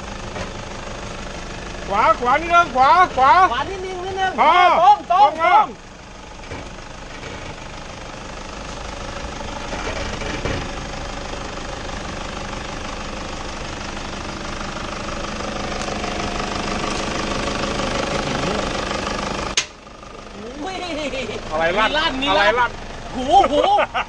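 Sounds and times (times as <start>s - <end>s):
diesel engine running at low revs: 0.0s - 24.0s.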